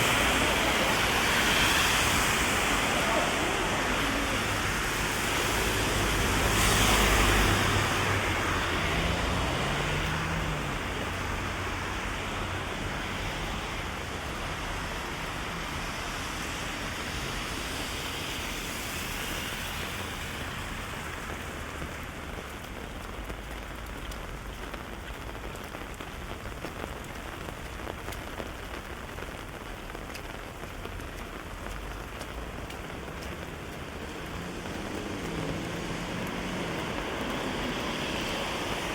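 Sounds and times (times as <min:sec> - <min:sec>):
heavy rain on street: 0:00.0 - 0:38.9
rain on an umbrella: 0:00.0 - 0:38.9.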